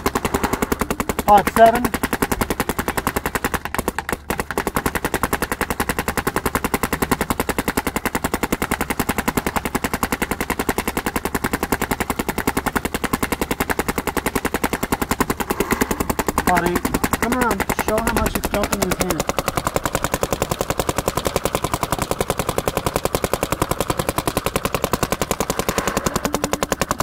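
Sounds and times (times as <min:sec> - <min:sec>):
paintball marker firing rapidly: 0:00.0 - 0:27.0.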